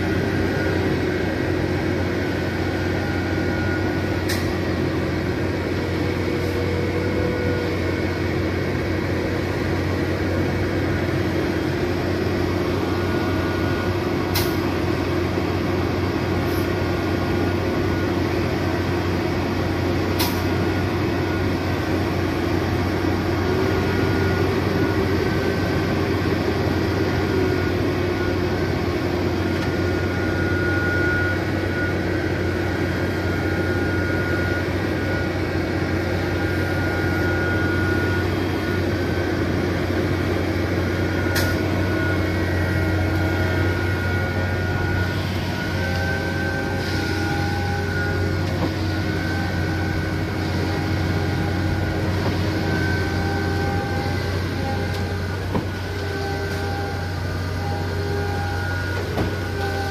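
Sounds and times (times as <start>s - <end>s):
heavy diesel engine drone: 0.0s - 59.9s.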